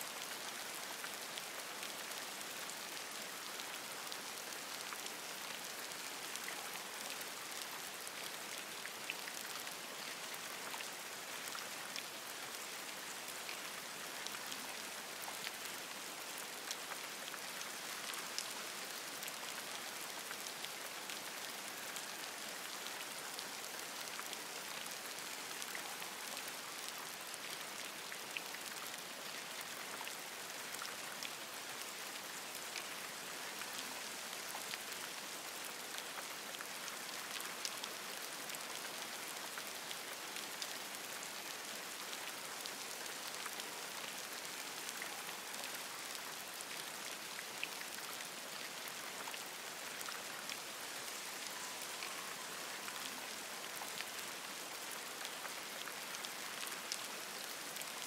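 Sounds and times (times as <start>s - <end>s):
rain on leaves: 0.0s - 58.0s.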